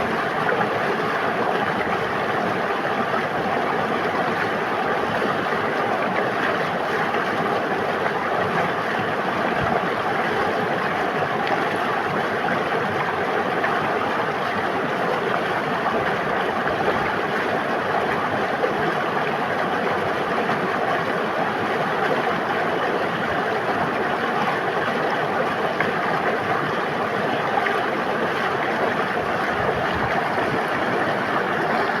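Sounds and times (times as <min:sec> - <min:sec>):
river water babbling: 0:00.0 - 0:32.0.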